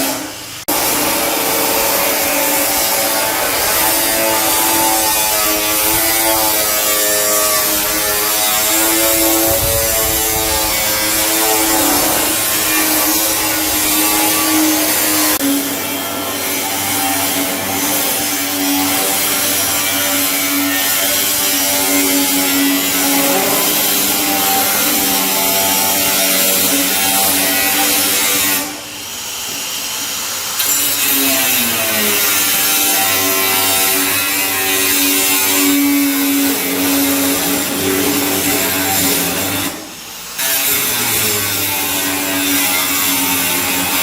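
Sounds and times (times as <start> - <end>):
power tool whining: 0.0 - 44.0.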